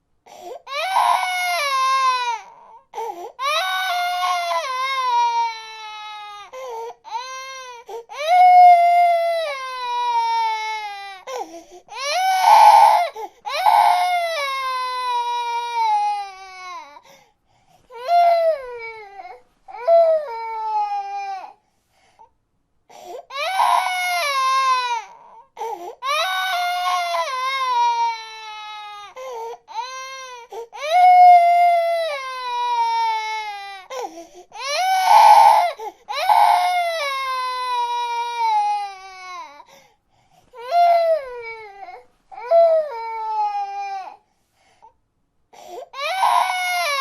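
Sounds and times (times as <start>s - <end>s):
baby crying: 0.6s - 17.0s, 17.9s - 21.6s, 23.2s - 39.7s, 40.6s - 44.2s, 45.6s - 47.0s.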